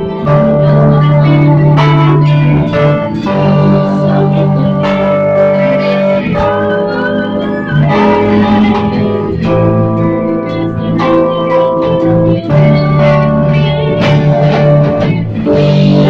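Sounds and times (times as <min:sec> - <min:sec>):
electric bass line: 0:00.0 - 0:16.0
electric keyboard chords: 0:00.0 - 0:16.0.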